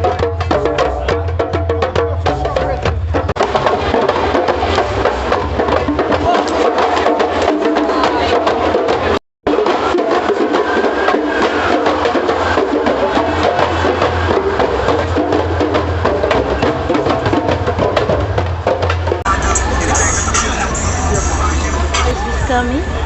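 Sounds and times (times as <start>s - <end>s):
percussion music: 0.0s - 23.0s.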